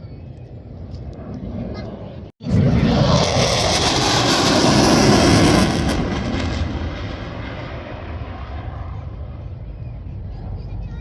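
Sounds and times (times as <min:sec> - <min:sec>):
aircraft flying past: 0:00.6 - 0:10.6.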